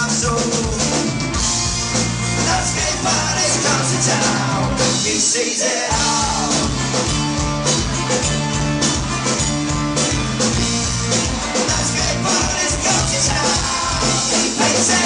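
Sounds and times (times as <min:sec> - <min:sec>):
folk-punk band playing live: 0:00.0 - 0:15.0.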